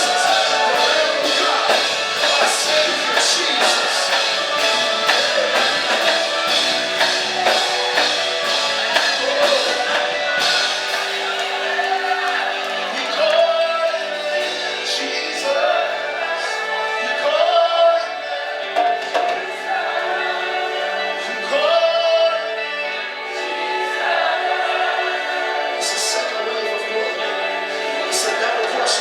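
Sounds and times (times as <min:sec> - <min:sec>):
gospel choir singing: 0:00.0 - 0:29.0.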